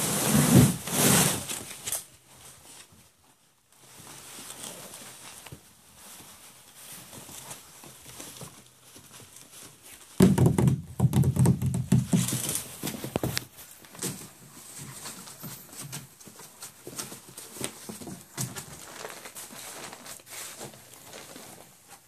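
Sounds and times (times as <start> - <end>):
paper rustling: 0.0 - 22.0
patter of puppy paws: 1.4 - 10.2, 11.7 - 22.0.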